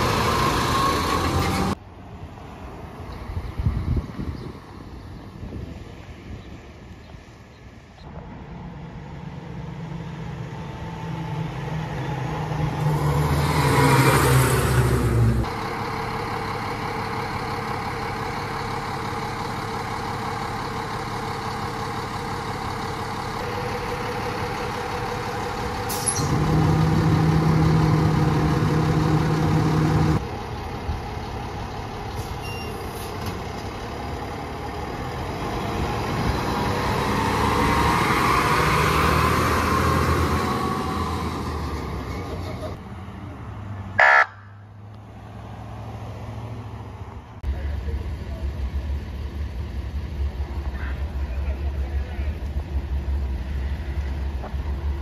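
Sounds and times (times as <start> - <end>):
diesel engine running: 0.0 - 1.8, 8.1 - 55.0.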